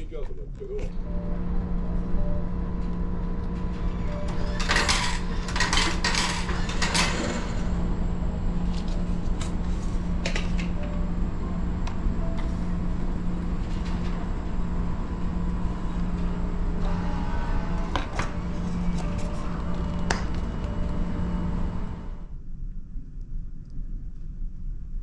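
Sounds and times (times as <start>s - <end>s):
vending machine humming: 0.9s - 22.3s.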